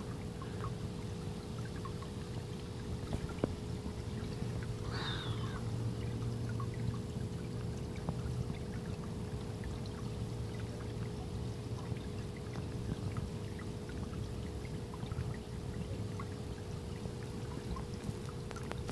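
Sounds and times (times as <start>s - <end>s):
faint steady hum: 0.0s - 18.9s
water trickling into pond: 0.0s - 18.9s.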